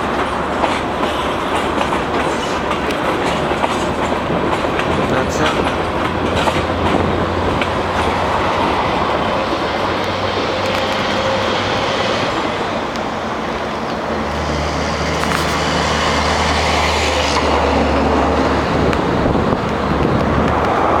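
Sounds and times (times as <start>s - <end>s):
freight train rumbling past: 0.0s - 21.0s
road traffic noise: 0.0s - 21.0s.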